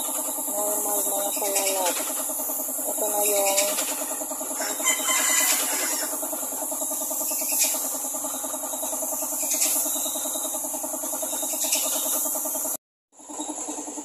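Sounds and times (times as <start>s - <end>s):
air compressor humming: 0.0s - 14.0s
paint spray gun hissing: 0.0s - 14.0s.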